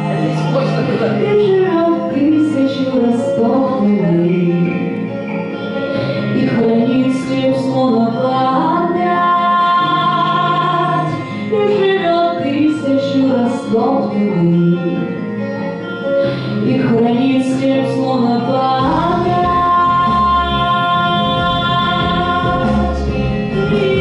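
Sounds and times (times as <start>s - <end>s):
instrumental accompaniment: 0.0s - 24.0s
woman singing: 1.2s - 5.0s, 6.2s - 15.2s, 16.6s - 24.0s.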